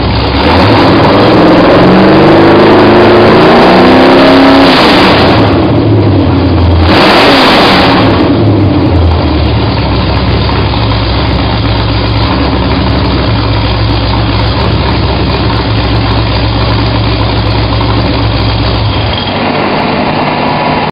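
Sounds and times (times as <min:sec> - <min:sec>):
engine revving and idling: 0:00.0 - 0:20.9.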